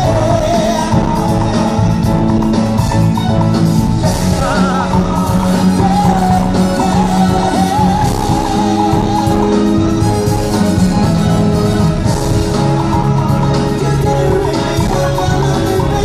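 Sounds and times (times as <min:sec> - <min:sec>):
bass notes: 0:00.0 - 0:16.0
drums: 0:00.0 - 0:16.0
wavering lead melody: 0:00.0 - 0:16.0.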